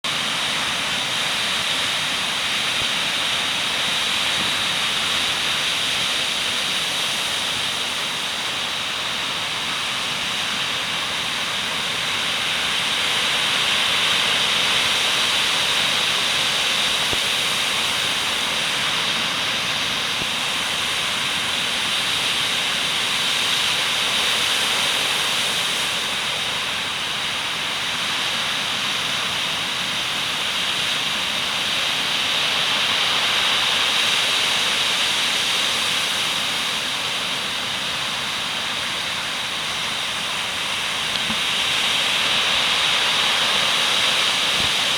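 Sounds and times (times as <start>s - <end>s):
wind-driven rain: 0.1s - 44.9s.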